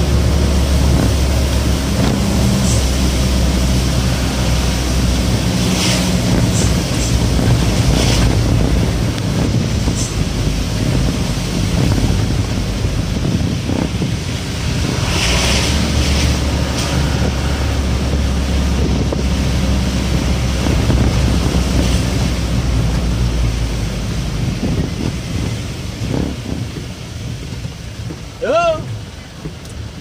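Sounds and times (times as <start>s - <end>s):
bus engine droning: 0.0s - 30.0s
tyres hissing on wet road: 0.0s - 30.0s.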